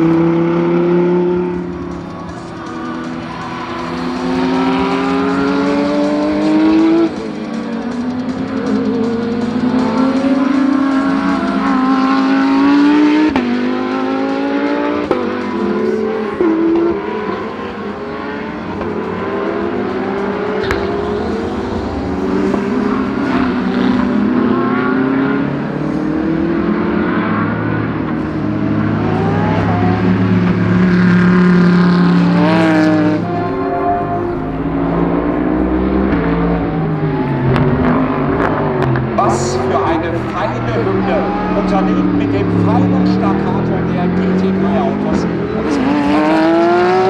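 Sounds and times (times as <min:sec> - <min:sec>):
race cars accelerating past: 0:00.0 - 0:47.0.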